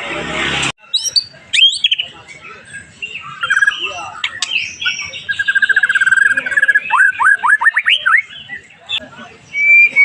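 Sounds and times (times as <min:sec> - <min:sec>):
songbird singing varied song: 0:00.8 - 0:10.0.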